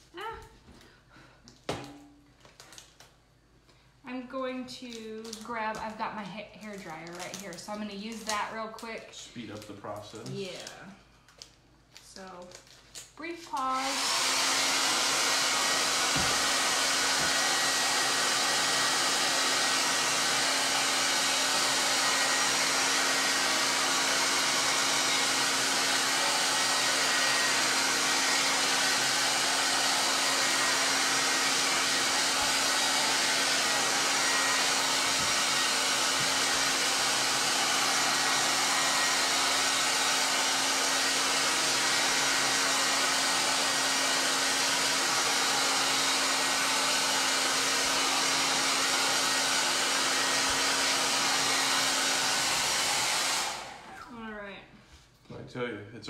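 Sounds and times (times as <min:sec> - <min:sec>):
hair dryer running: 0:04.1 - 0:10.9, 0:13.4 - 0:54.3.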